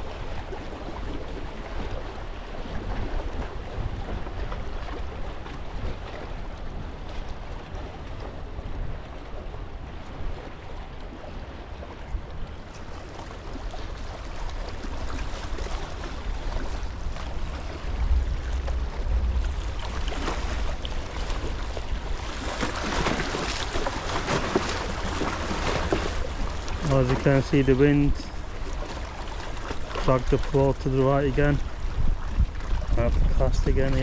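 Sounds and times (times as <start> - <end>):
waves lapping against rocks: 0.0 - 34.0
wind buffeting microphone: 0.0 - 34.0.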